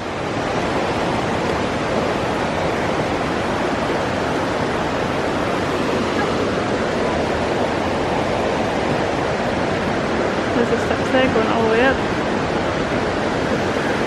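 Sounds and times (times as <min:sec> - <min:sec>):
water rushing from small waterfall: 0:00.0 - 0:14.0.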